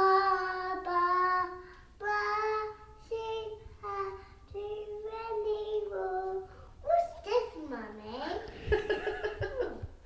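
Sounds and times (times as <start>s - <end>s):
toddler singing: 0.0s - 8.3s.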